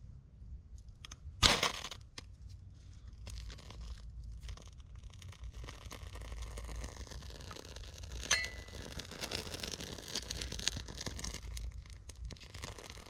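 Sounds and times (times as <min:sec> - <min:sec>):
tinder tearing: 0:01.4 - 0:02.2, 0:03.2 - 0:13.0.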